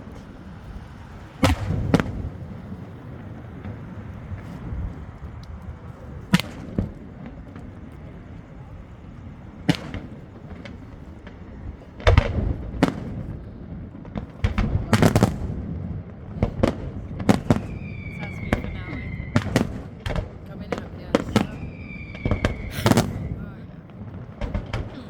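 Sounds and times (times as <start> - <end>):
fireworks exploding: 0.0 - 25.0
steady low rumble: 0.0 - 25.0.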